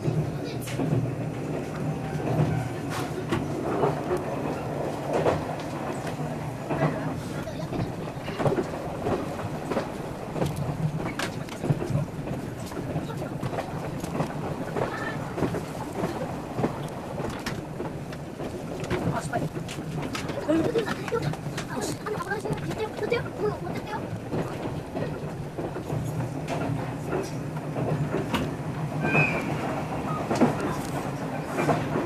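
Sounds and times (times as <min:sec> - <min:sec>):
train rumble inside carriage: 0:00.0 - 0:32.0
wheels clicking on rails: 0:00.0 - 0:32.0.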